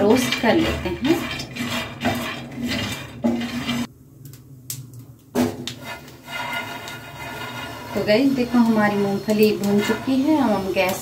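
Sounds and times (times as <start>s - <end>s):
peanuts rattling in pan: 0.0s - 3.8s, 5.8s - 11.0s
spatula scraping pan: 0.0s - 3.9s, 5.7s - 11.0s.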